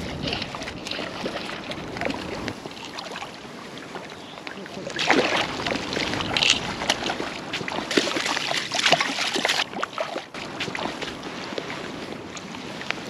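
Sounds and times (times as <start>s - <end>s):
fish thrashing and splashing: 0.0s - 12.6s.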